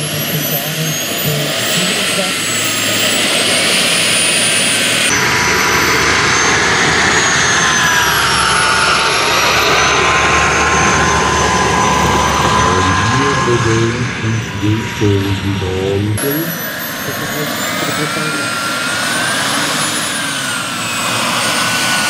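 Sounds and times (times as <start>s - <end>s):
model turbine engine whine: 0.0s - 22.0s.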